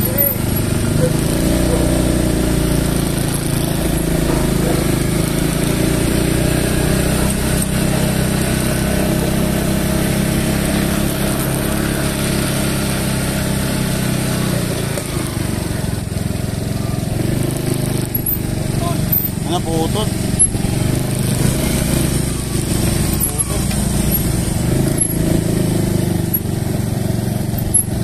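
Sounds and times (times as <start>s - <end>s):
motor scooter engine running: 0.0s - 28.0s
wind and road noise: 0.0s - 28.0s.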